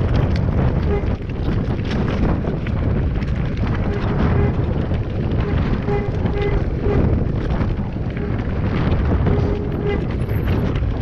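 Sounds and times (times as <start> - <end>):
bike rattling: 0.0 - 11.0
tyres crunching over rocks: 0.0 - 11.0
wind buffeting microphone: 0.0 - 11.0.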